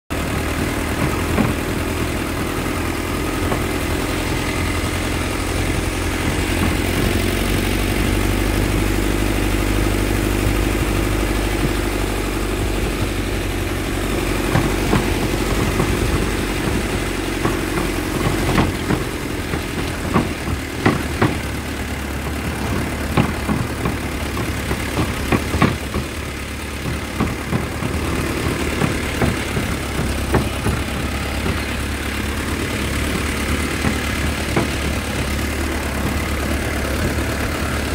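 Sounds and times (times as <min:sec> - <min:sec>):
truck engine running: 0:00.0 - 0:37.9
truck knocks and rattles: 0:00.1 - 0:37.9.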